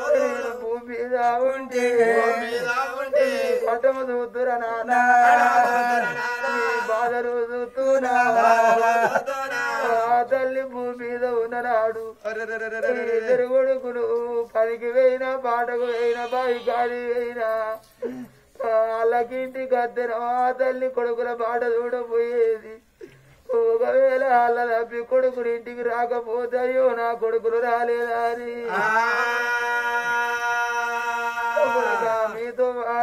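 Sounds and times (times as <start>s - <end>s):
person singing unaccompanied ballad: 0.0s - 33.0s.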